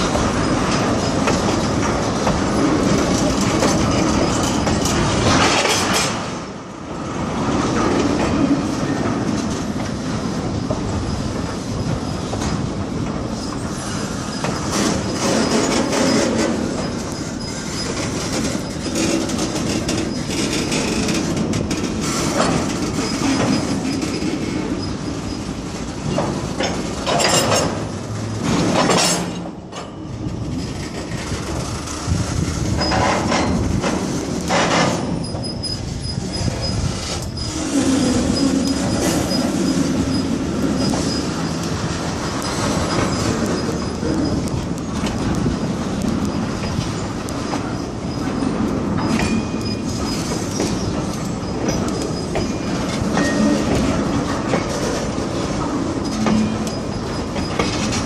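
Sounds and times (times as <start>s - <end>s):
freight train wheels clacking: 0.0s - 58.0s.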